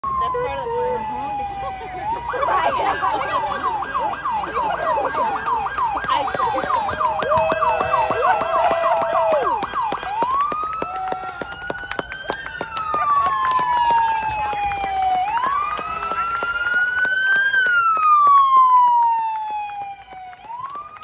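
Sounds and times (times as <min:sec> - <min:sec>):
siren yelping and wailing: 0:00.0 - 0:21.0.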